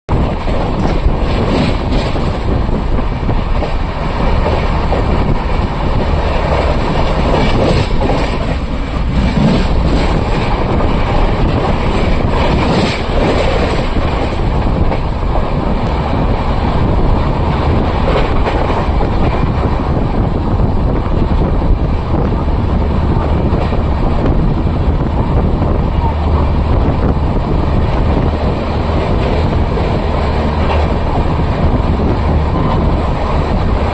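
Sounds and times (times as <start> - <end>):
train wheels rumbling on rails: 0.1 - 33.9.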